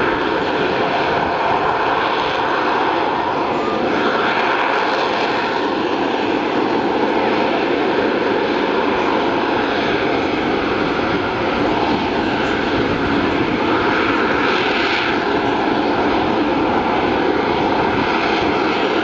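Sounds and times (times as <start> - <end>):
loud steady jet noise: 0.0 - 19.0.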